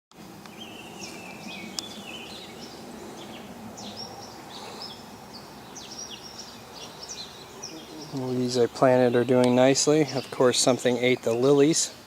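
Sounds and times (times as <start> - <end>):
low background noise: 0.2 - 12.0
songbirds chirping: 0.2 - 12.0.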